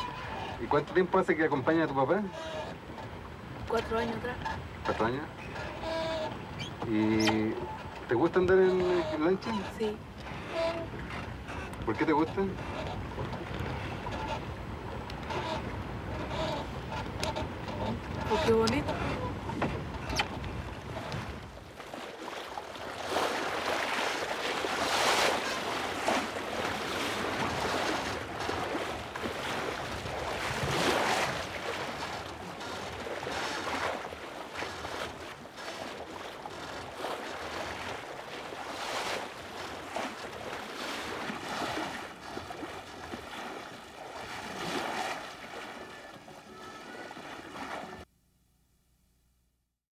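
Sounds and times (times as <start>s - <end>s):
water rushing along a boat hull: 0.0s - 48.1s.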